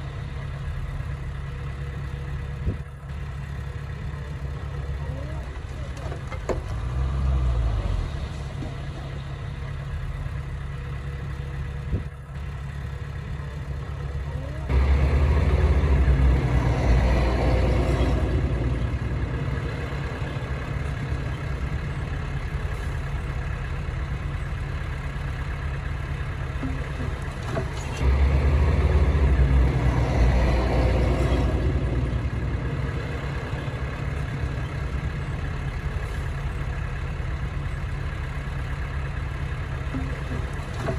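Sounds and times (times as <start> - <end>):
diesel bulldozer engine running: 0.0 - 40.9.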